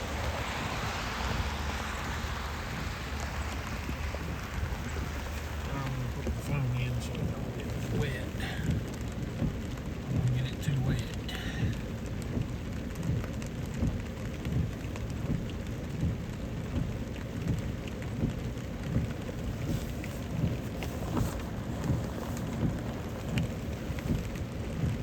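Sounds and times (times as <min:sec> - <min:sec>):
low thumps of raindrops: 0:00.0 - 0:25.0
rain falling on a car: 0:00.0 - 0:25.0.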